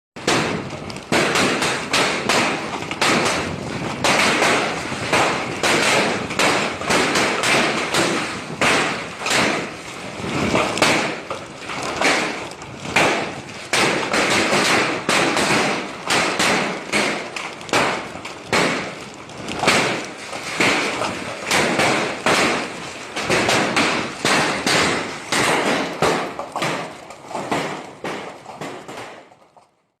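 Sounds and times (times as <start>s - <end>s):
hailstones clattering on hard surface: 0.2s - 29.9s.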